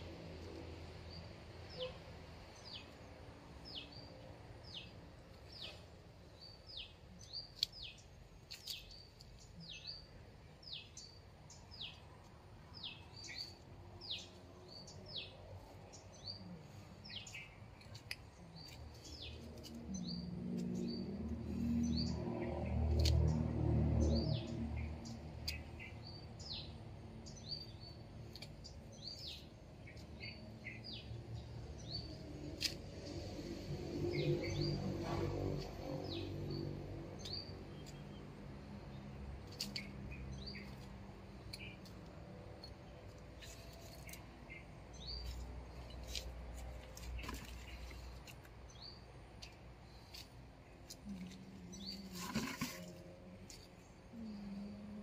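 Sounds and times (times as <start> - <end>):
small birds chirping: 0.4 - 55.0.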